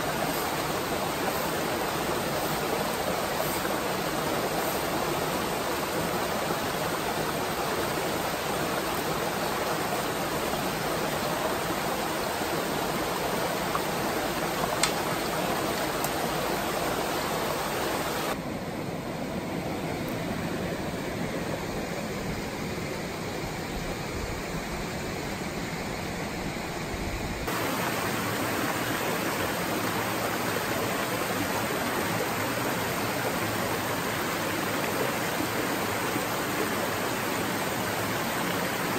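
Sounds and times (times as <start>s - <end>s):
stream rushing over rocks: 0.0s - 18.6s, 19.2s - 38.9s.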